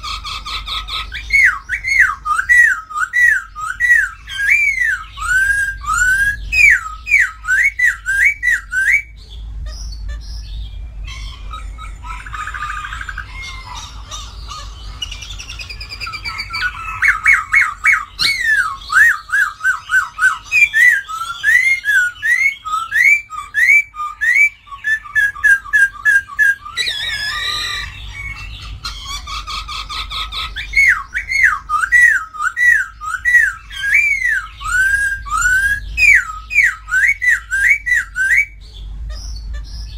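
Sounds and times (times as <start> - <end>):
bird harsh chattering: 0.0 - 9.1, 11.1 - 39.9
bird singing whistled notes: 1.0 - 10.7, 14.6 - 28.7, 30.4 - 39.9.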